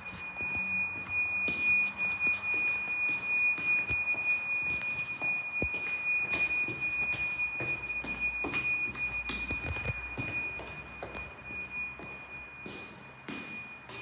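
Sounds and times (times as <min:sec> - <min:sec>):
high-pitched electronic beeper tone: 0:00.0 - 0:14.0.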